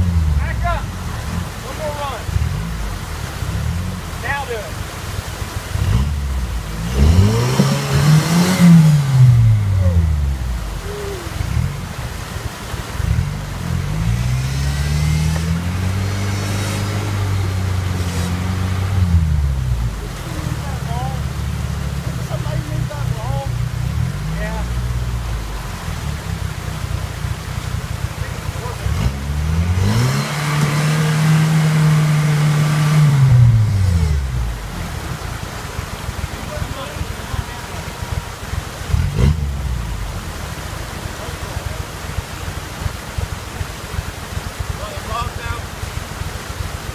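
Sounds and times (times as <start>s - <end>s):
buggy engine revving: 0.0s - 46.9s
rushing creek water: 0.0s - 46.9s.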